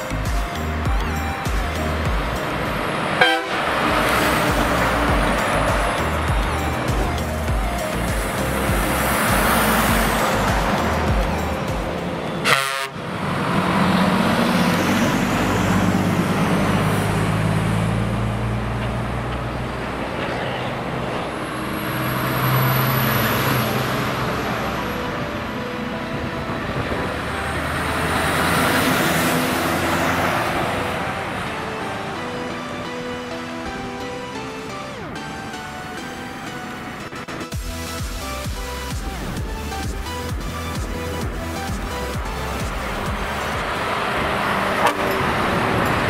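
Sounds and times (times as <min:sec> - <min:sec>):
heavy truck diesel engines passing: 0:00.0 - 0:46.0.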